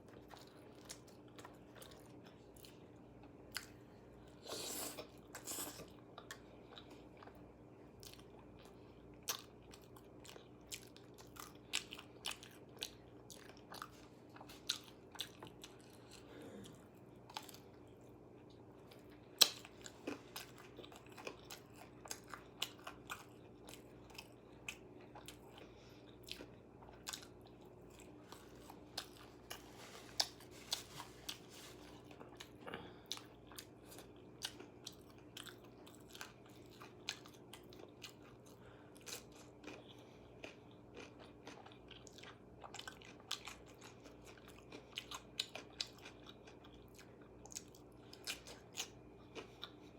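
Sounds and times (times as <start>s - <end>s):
chewing crispy food: 0.0s - 49.9s.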